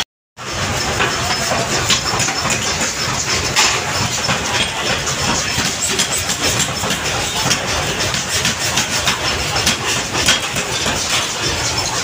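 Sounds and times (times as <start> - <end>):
machinery mechanical din: 0.4 - 12.0
metallic clanks: 0.6 - 12.0.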